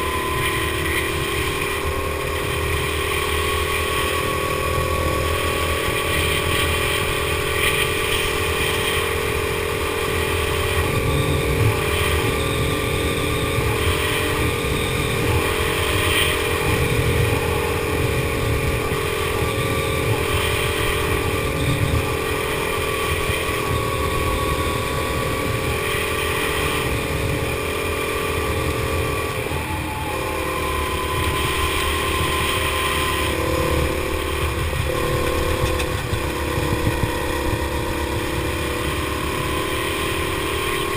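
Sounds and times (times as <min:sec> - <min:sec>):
go-kart engine running: 0:00.0 - 0:40.9.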